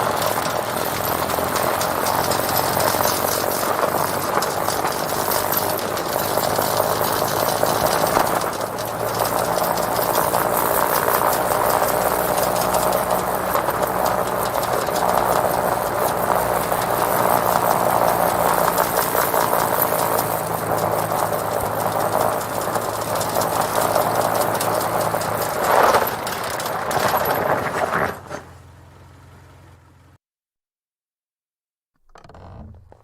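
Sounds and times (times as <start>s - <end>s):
snow chains rattling: 0.0s - 28.4s
tyres crunching snow: 0.0s - 28.6s
vehicle engine running: 0.0s - 30.2s.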